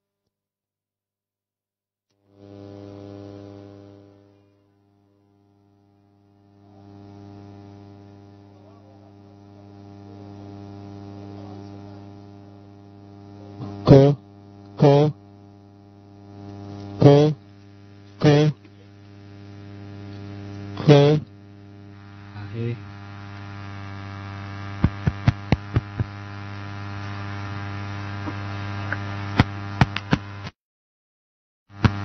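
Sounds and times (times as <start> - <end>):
short loud buzzes: 2.2 - 8.3, 10.4 - 15.4, 16.2 - 30.6, 31.7 - 32.0
electrical mains hum: 2.2 - 30.5, 31.7 - 32.0.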